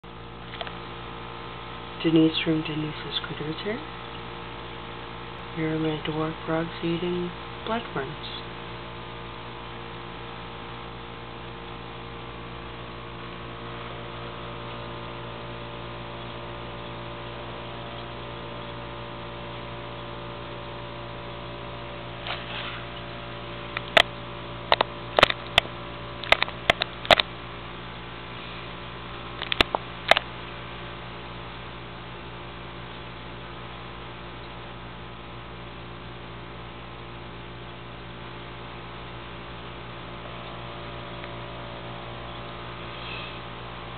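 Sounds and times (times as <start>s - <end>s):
electrical mains hum: 0.0s - 43.9s.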